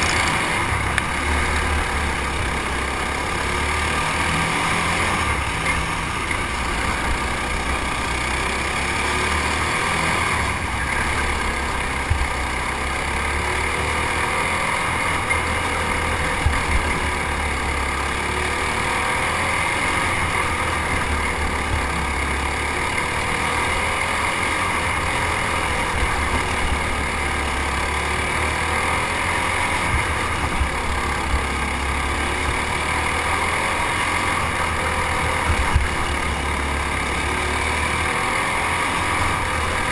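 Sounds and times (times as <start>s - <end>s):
kart engine running hard: 0.0s - 39.9s
other kart engines: 0.0s - 39.9s.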